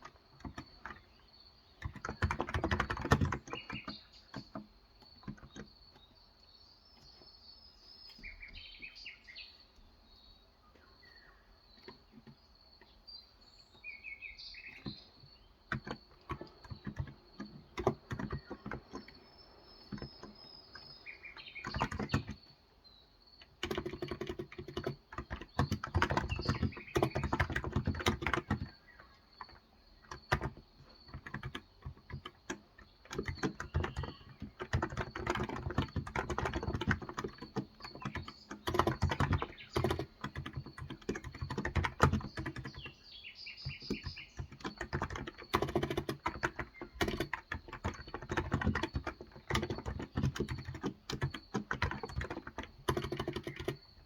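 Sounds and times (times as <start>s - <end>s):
keyboard typing: 0.0s - 6.1s, 14.6s - 22.7s, 23.4s - 54.0s
faint birdsong: 0.0s - 54.0s.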